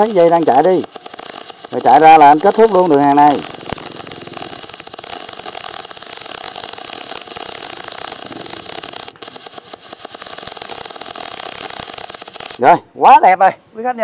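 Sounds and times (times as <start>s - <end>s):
welding arc crackling hiss: 0.0s - 12.8s.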